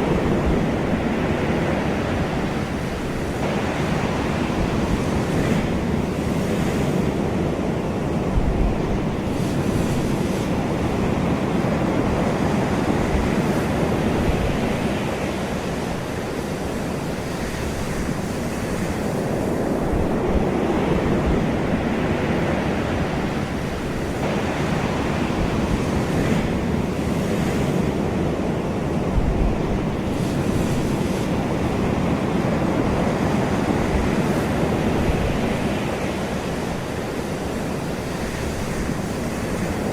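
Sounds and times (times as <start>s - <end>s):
ocean waves on shore: 0.0s - 39.9s.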